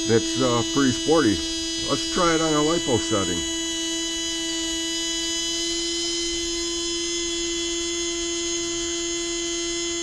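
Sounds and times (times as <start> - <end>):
electric motor whine: 0.0 - 10.0.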